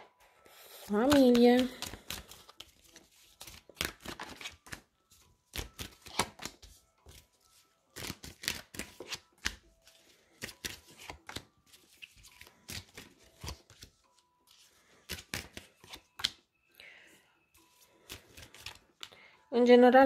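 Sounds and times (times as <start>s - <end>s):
cards shuffled and dealt: 0.4s - 16.4s, 17.6s - 19.2s.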